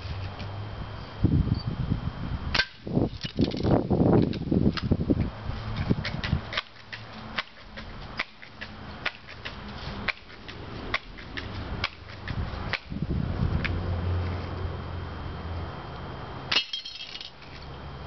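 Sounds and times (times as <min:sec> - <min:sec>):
low hum: 0:00.0 - 0:07.4, 0:08.0 - 0:18.0.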